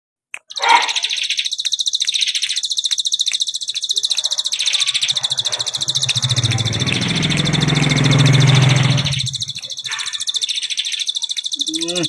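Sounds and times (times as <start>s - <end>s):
bird singing high chirps: 0.4s - 12.0s
faint clicks: 0.4s - 12.0s.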